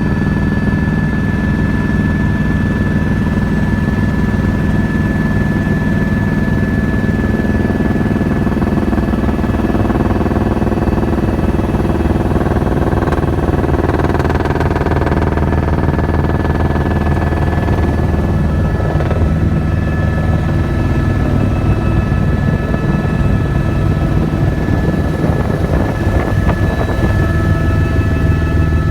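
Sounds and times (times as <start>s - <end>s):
helicopter engine and rotor drone: 0.0s - 28.9s.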